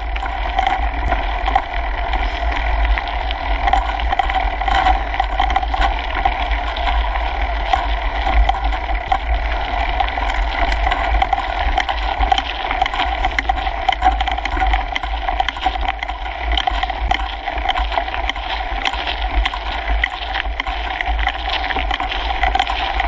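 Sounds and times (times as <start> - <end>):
low rumble: 0.0 - 19.8
bike rattles and clicks: 0.0 - 23.0
tyres rolling on gravel: 0.0 - 23.0.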